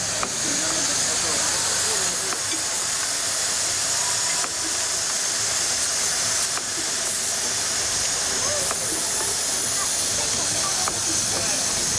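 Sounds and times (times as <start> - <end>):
steam hissing: 0.0 - 11.9.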